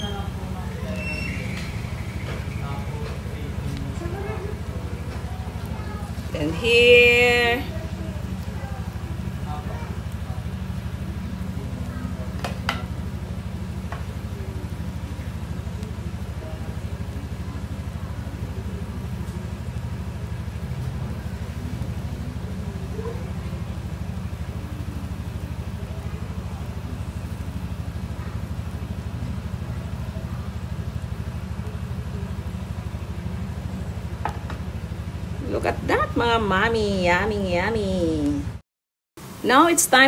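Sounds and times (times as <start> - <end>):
batter sizzling in pan: 0.0 - 36.5.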